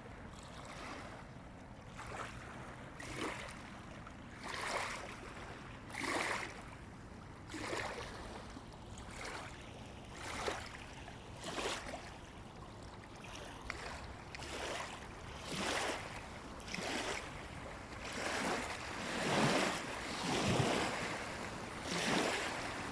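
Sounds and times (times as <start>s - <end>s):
river waves lapping and splashing: 0.0s - 22.9s.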